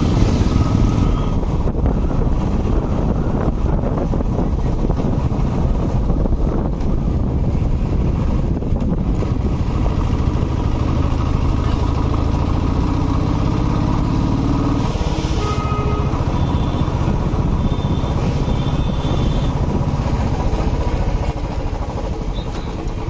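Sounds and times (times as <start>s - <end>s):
wind noise: 0.0s - 11.7s, 13.2s - 22.3s
motorcycle engine running: 0.0s - 23.0s.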